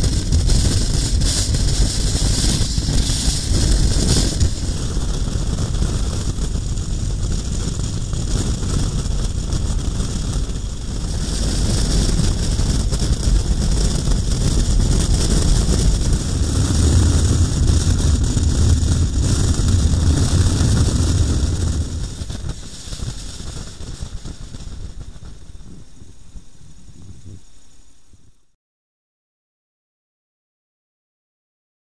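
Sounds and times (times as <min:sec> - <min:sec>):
wind rushing over microphone: 0:00.0 - 0:28.4.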